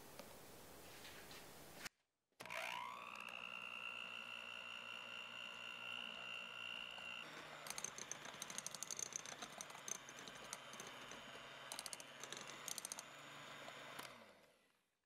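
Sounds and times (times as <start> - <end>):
electric hand mixer running: 2.4 - 14.8.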